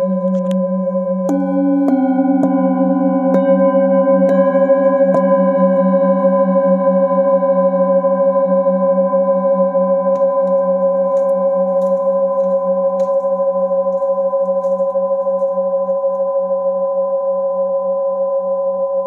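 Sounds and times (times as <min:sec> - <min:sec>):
singing bowls ringing: 0:00.0 - 0:19.0.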